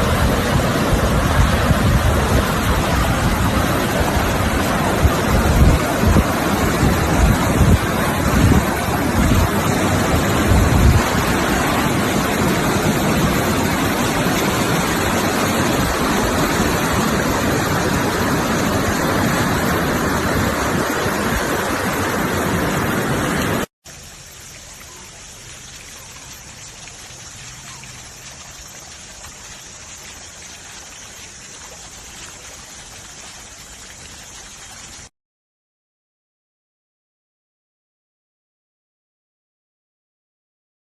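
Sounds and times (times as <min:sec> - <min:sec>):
rushing water: 0:00.0 - 0:35.1.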